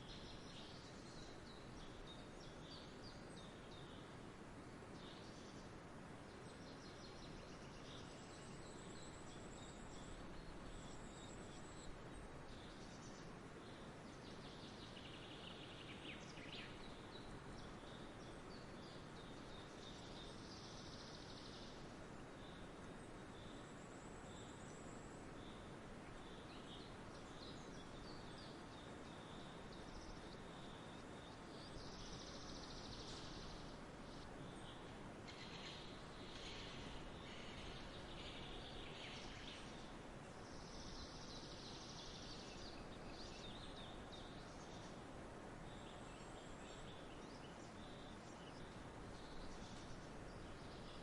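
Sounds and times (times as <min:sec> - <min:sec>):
faint background hiss: 0:00.0 - 0:51.0.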